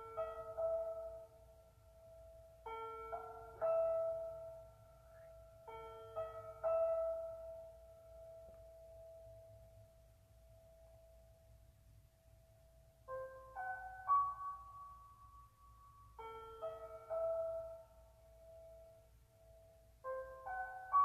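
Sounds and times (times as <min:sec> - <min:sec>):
slow solo piano: 0:00.0 - 0:11.6, 0:12.4 - 0:21.0.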